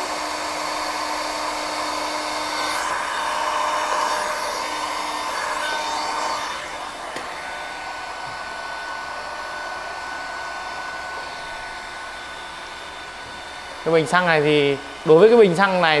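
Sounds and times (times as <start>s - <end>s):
heat gun blowing hot air: 0.0s - 16.0s.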